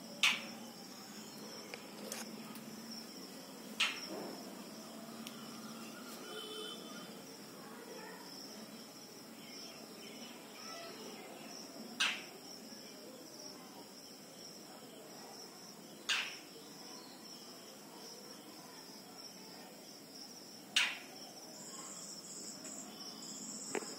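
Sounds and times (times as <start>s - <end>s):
insects chirring: 0.0s - 23.9s.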